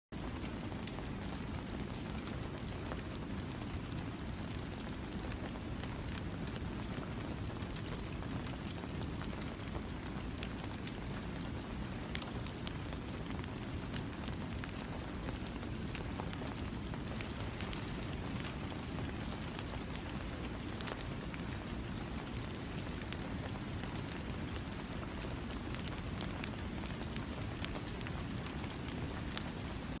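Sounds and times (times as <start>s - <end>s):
raindrops ticking on a surface: 0.2s - 30.0s
steady rain falling: 0.2s - 30.0s.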